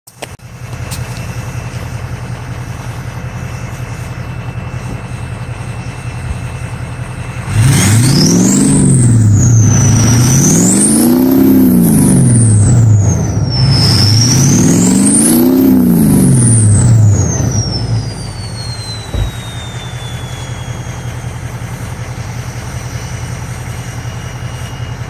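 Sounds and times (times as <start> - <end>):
diesel engine idling and revving: 0.1 - 25.0
high turbo whistle: 3.3 - 25.0.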